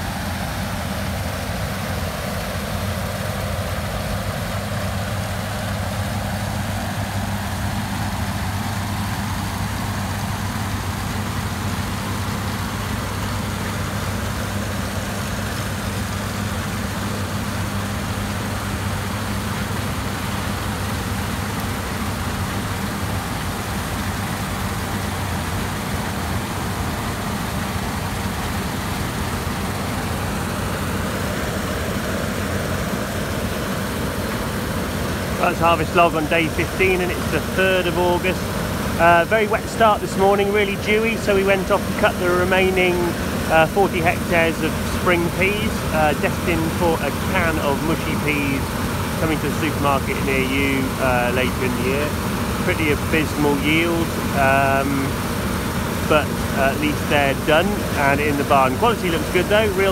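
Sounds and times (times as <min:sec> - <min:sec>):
combine harvester engine hum: 0:00.0 - 0:59.9.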